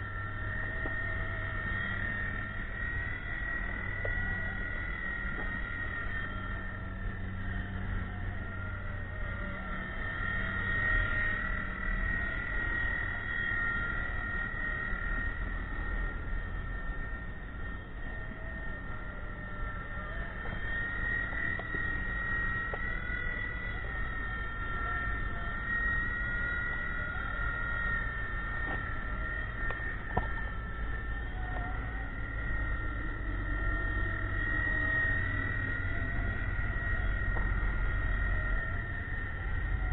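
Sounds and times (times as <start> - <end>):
toy helicopter motor whine: 0.0 - 39.9.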